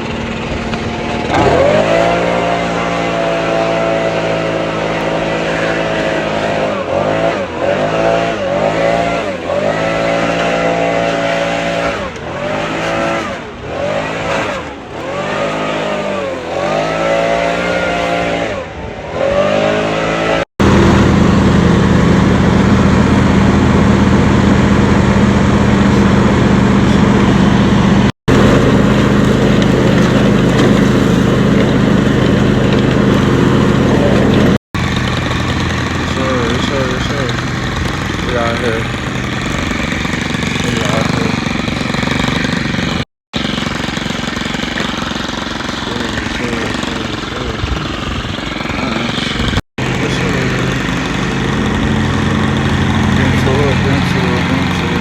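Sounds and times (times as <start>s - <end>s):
engine revving up and down: 0.0s - 55.0s
engine running at steady speed: 0.0s - 55.0s.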